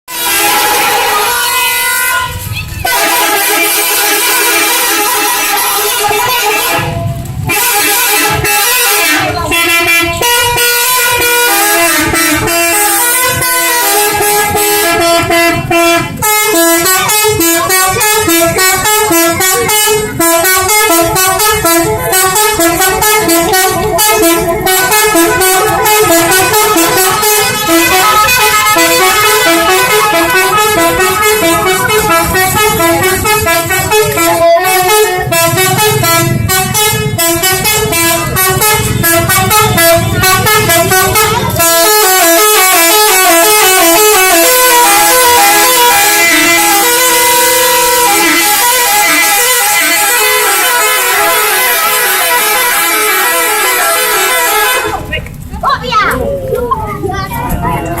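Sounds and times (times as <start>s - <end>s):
musical bus horn melody: 0.1s - 55.1s.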